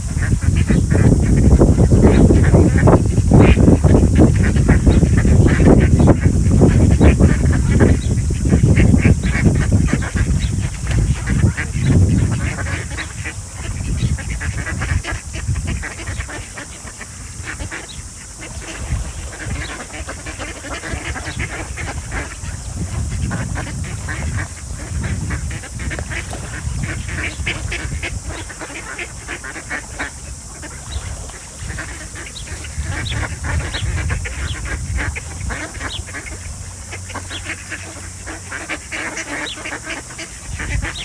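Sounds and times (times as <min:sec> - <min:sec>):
ducks quacking: 0:00.0 - 0:41.0
steady high hiss: 0:00.0 - 0:41.0.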